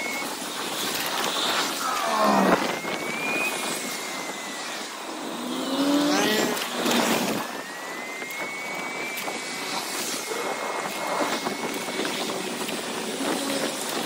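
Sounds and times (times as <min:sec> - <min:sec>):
bicycle rolling noise: 0:00.0 - 0:14.0
thin high whine: 0:00.0 - 0:14.0
wind rushing: 0:00.5 - 0:14.0.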